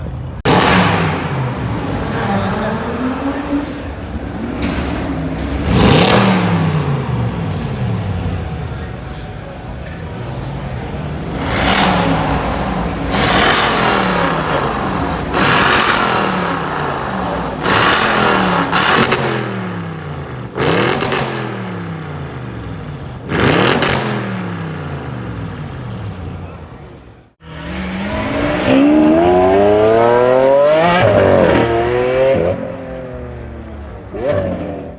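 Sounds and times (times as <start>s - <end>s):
car engine revving: 0.3s - 26.6s, 27.3s - 34.9s
car accelerating hard: 0.4s - 9.0s, 9.8s - 25.6s, 27.4s - 34.9s.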